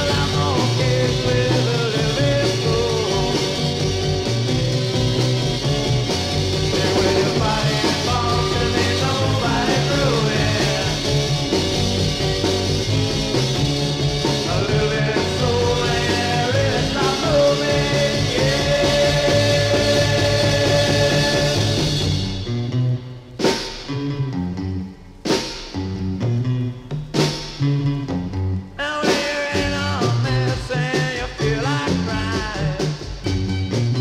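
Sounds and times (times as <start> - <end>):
rock music with vocals: 0.0 - 24.6, 27.2 - 34.0.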